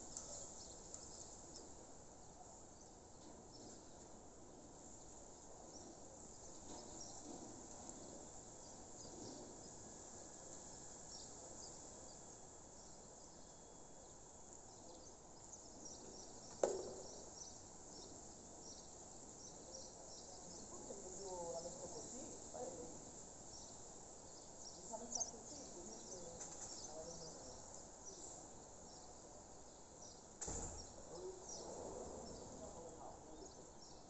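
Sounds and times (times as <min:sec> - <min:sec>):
steady outdoor hiss: 0:00.0 - 0:34.0
birds and insects chirping: 0:04.8 - 0:34.0.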